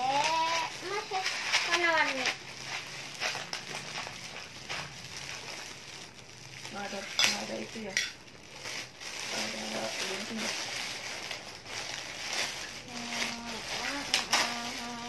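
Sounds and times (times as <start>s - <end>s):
plastic bags crinkling and rustling: 0.0s - 15.0s.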